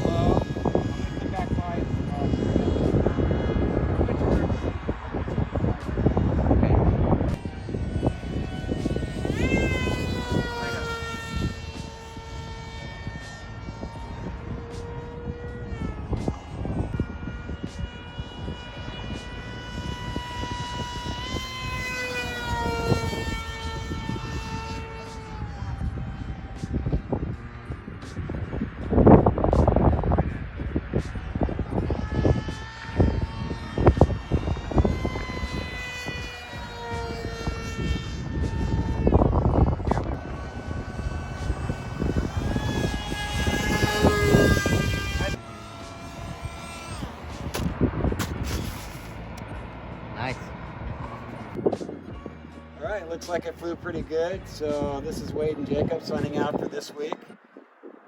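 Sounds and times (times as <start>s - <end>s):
low rumble: 0.0s - 56.5s
electric motor and propeller whining: 0.0s - 58.0s.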